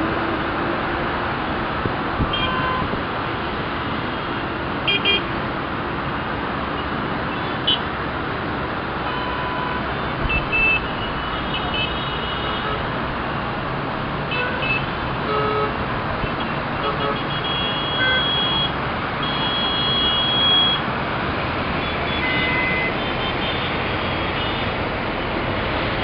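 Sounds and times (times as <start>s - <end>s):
road traffic engines and tyres: 0.0s - 26.0s.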